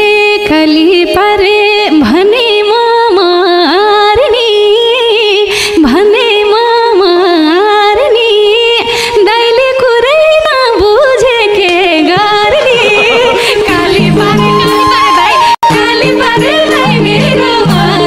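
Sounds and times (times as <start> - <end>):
woman singing wordless melody: 0.0 - 18.0.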